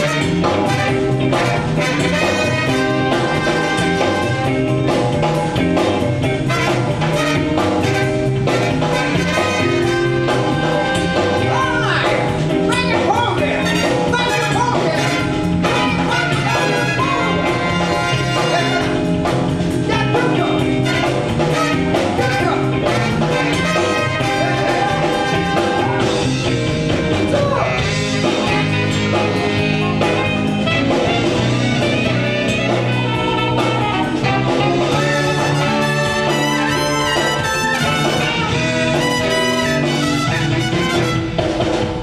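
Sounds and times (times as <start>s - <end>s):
brass horns: 0.0s - 5.2s, 6.3s - 12.0s, 13.3s - 27.0s, 27.6s - 42.0s
drum beat: 0.0s - 42.0s
live band music: 0.0s - 42.0s.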